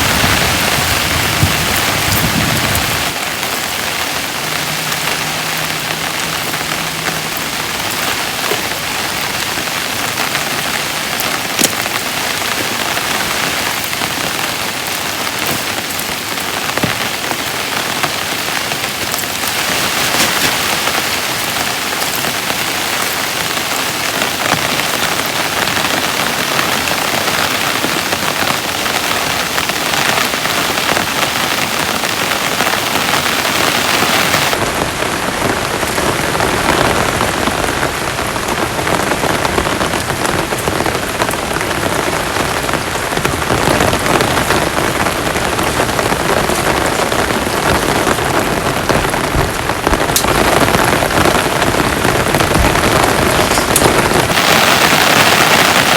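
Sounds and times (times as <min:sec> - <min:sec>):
heavy rain pouring: 0:00.0 - 0:55.9
sharp raindrop hits: 0:00.0 - 0:55.9.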